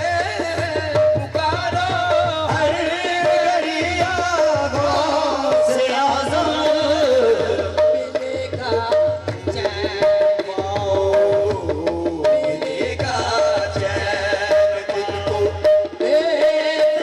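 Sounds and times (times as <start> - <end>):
tabla drumming: 0.0 - 17.0.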